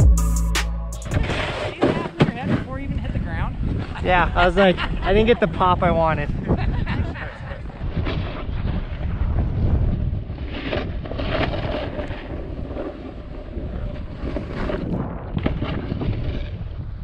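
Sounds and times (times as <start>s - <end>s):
wind rumbling on microphone: 1.0s - 17.0s
snowboard scraping over snow: 1.1s - 17.0s.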